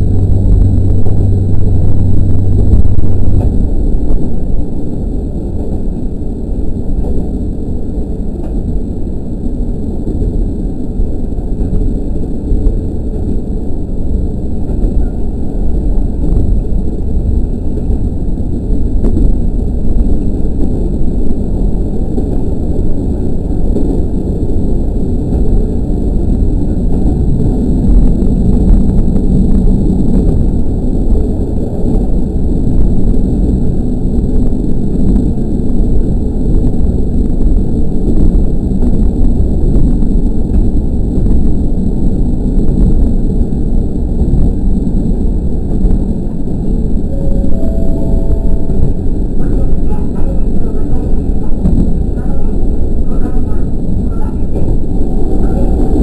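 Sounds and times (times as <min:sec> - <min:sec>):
low engine hum: 0:00.0 - 0:56.0
railcar rumbling on rails: 0:00.0 - 0:56.0.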